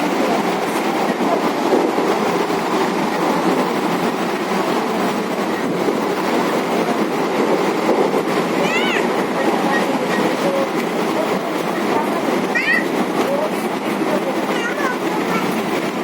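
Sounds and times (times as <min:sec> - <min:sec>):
train carriage rumbling and rattling: 0:00.0 - 0:16.0
wheels clattering over rail joints: 0:00.0 - 0:16.0.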